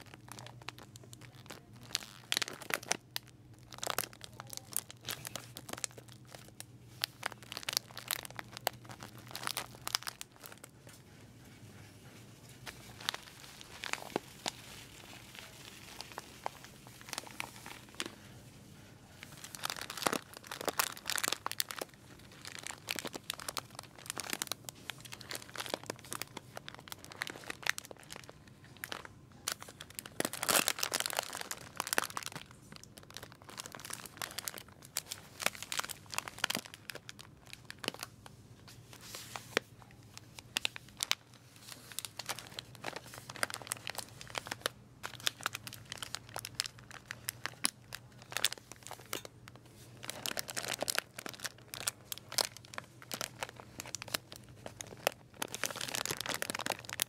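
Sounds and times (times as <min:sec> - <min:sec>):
plastic bags crinkling: 0:00.0 - 0:57.0.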